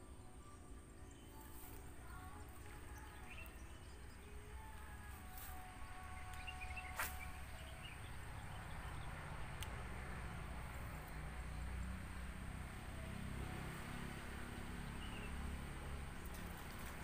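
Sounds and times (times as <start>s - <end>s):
rural ambience: 0.0s - 17.0s.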